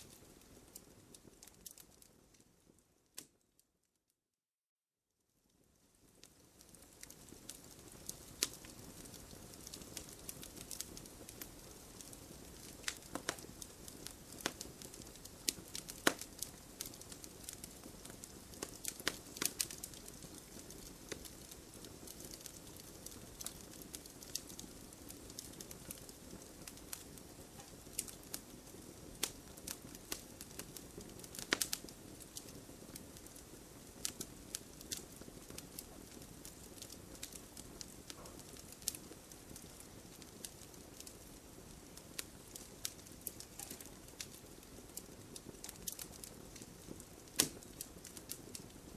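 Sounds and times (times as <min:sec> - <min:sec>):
wood fire crackling and popping: 0:00.0 - 0:03.4, 0:05.6 - 0:48.9
low hiss of flames: 0:05.6 - 0:48.9.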